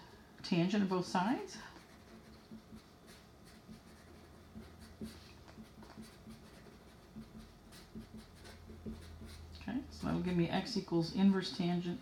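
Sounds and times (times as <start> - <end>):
marker scratching on paper: 1.7 - 11.5.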